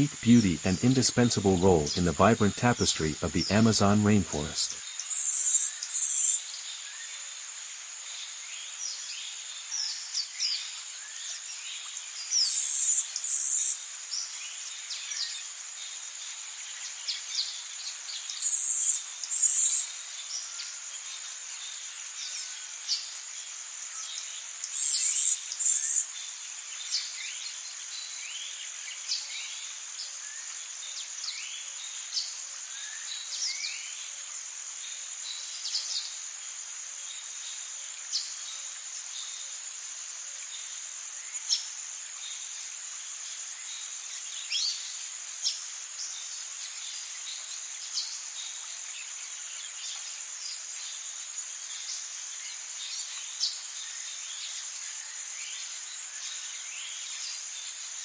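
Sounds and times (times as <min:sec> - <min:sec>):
insects droning: 0:00.0 - 0:58.0
insect chirps: 0:04.4 - 0:58.0.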